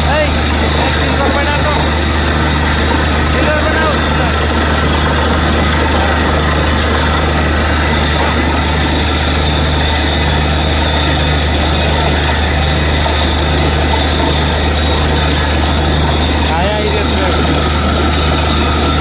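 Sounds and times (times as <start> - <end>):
drilling rig running: 0.0 - 19.0.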